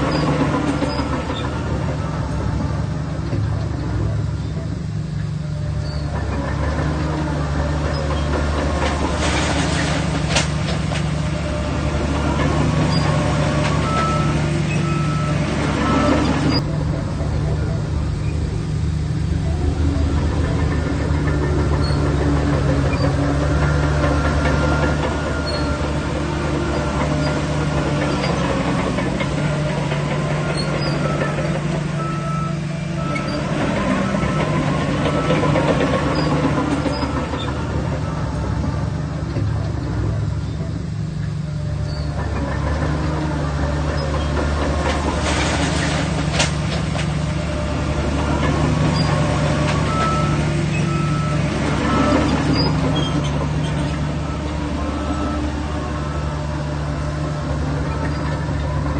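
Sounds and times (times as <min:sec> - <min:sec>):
high metallic squeaks: 0:00.0 - 0:16.7, 0:19.3 - 0:39.0, 0:40.1 - 0:58.9
bulldozer diesel engine: 0:00.0 - 0:58.9.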